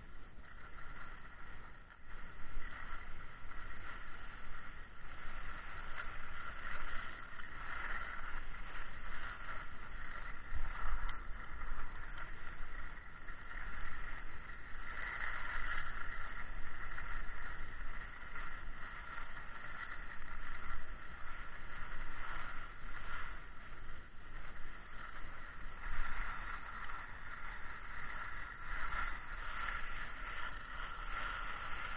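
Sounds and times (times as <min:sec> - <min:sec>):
skis scraping over snow: 0:00.0 - 0:31.9
wind rumble on microphone: 0:00.0 - 0:31.9.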